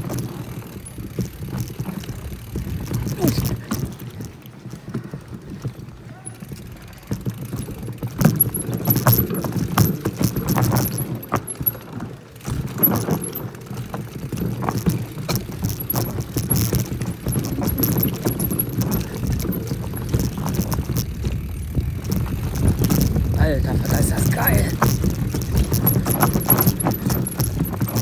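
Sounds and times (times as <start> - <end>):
bike chain and frame rattling: 0.0 - 28.0
tyres rumbling on dirt: 0.0 - 28.0.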